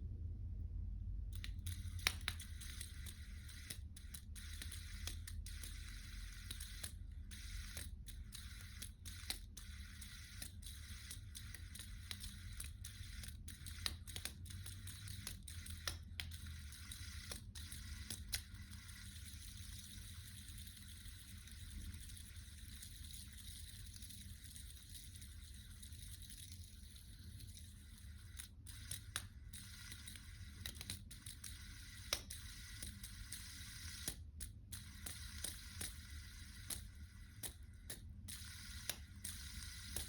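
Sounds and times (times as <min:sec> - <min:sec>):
fidget spinner bearing hiss: 0:01.3 - 0:40.0
irregular clicks: 0:01.3 - 0:40.0.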